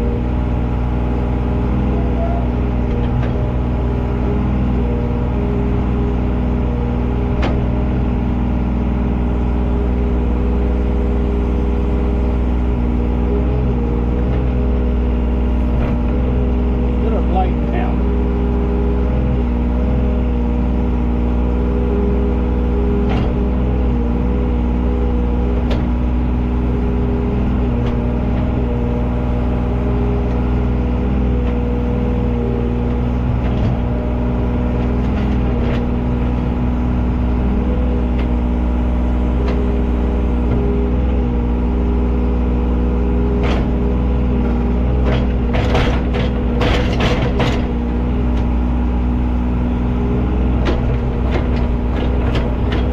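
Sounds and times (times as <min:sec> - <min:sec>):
machine engine at high idle: 0:00.0 - 0:52.9.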